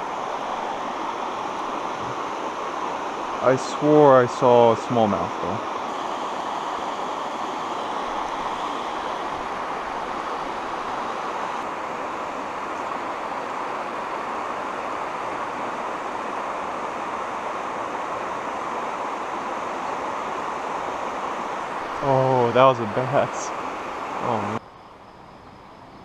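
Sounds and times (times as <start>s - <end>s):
river water flowing: 0.0s - 25.3s.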